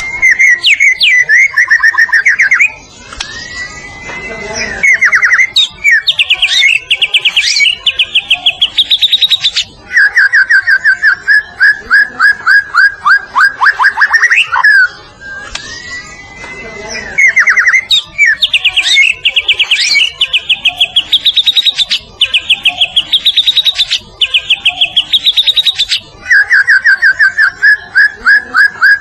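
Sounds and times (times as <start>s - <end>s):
songbird whistling: 0.0s - 4.0s, 4.6s - 16.2s, 16.9s - 29.0s.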